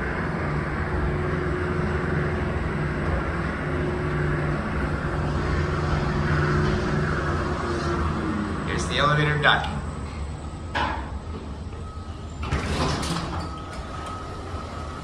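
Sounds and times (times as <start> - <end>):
hoist motor humming: 0.0 - 15.0.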